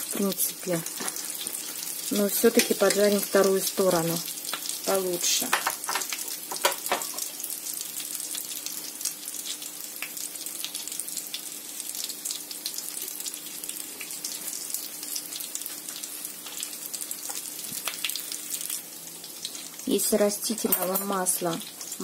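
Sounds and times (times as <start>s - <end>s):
pies frying in oil: 0.0s - 22.0s.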